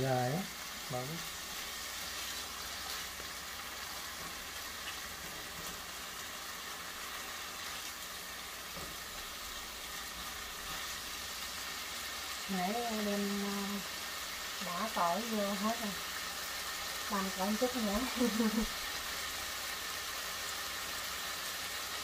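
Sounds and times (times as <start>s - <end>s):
stir-fry sizzling in a pan: 0.0s - 22.0s.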